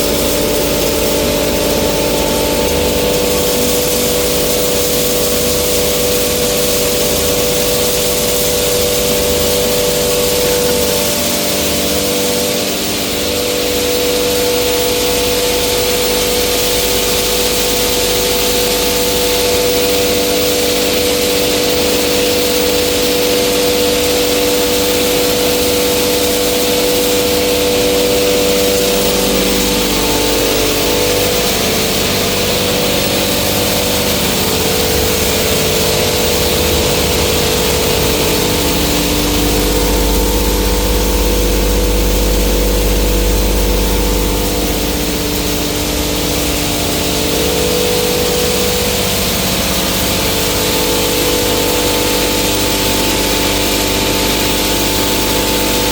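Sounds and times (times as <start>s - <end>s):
grinding mill motor hum: 0.0s - 55.9s.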